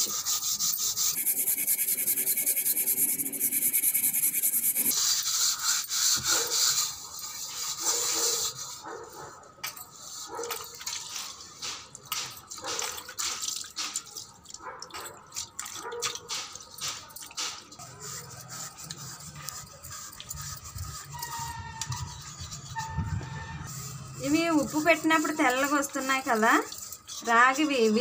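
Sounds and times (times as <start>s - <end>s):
hands scrubbing copper vessels: 0.0s - 28.0s.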